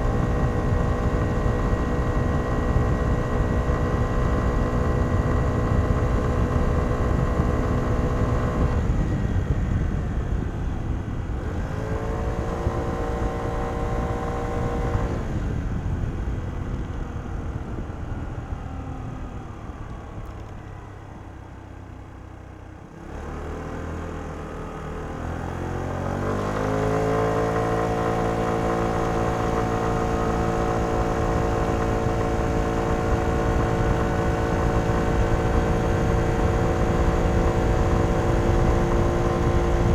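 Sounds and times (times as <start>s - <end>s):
scooter engine: 0.0s - 10.7s, 11.4s - 39.9s.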